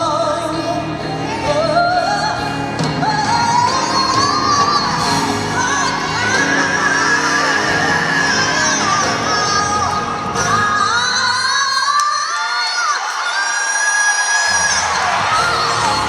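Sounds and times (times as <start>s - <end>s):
gospel choir singing: 0.0s - 11.9s, 13.0s - 16.0s.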